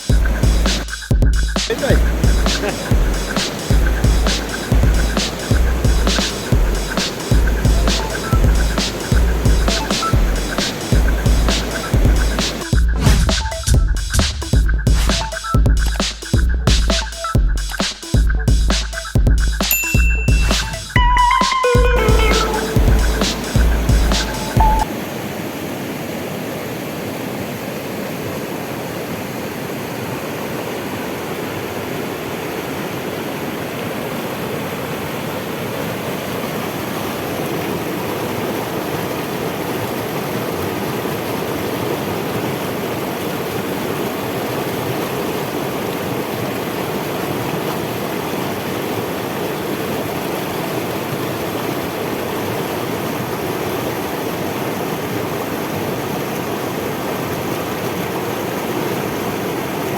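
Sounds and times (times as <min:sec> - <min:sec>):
waterfall rushing: 0:00.0 - 0:00.9, 0:01.7 - 0:15.6, 0:19.8 - 0:59.9.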